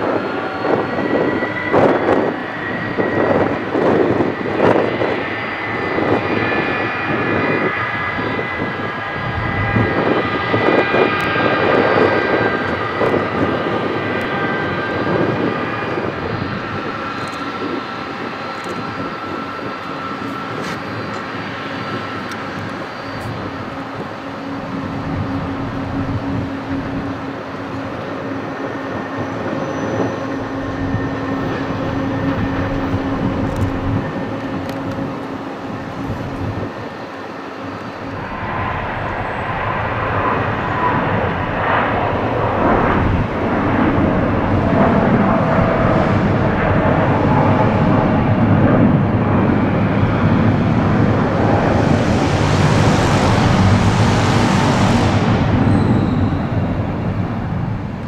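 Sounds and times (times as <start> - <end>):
airliner taking off: 0.0 - 58.0
taxiing jet engines humming: 0.0 - 58.0.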